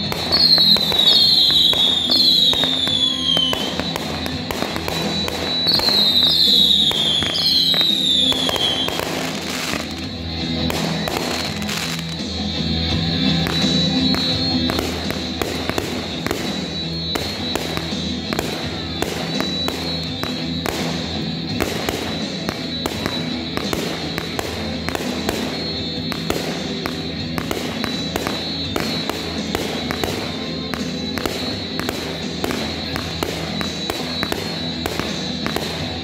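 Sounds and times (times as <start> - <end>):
fireworks bangs: 0.0 - 36.0
music: 0.0 - 36.0.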